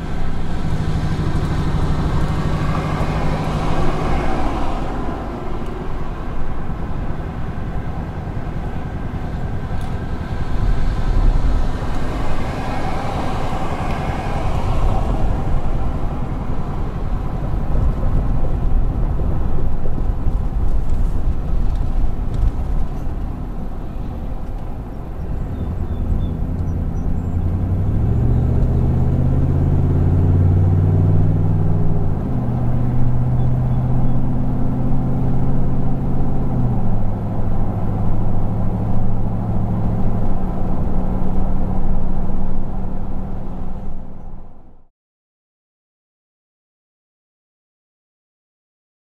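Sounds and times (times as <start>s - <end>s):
low engine rumble: 0.0s - 44.9s.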